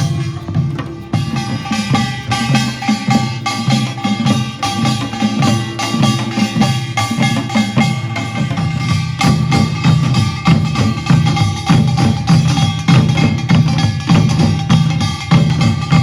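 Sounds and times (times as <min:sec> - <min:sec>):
percussion band with gongs and drums: 0:00.0 - 0:16.0.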